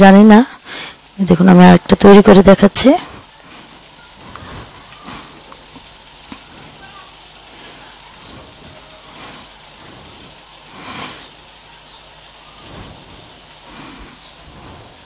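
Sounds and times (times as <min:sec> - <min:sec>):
gas burner hissing: 0:00.0 - 0:15.0.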